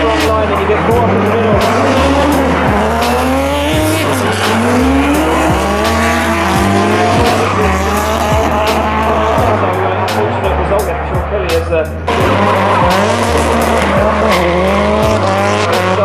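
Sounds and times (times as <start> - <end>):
car engines revving: 0.0 - 16.0
chill-hop beat with bass: 0.0 - 16.0.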